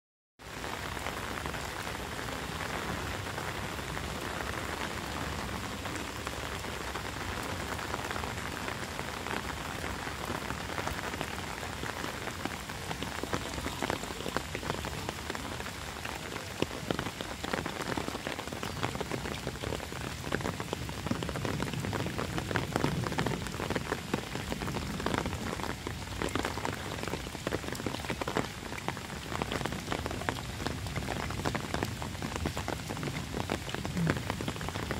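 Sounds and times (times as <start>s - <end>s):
heavy rain on pavement: 0.4s - 34.9s.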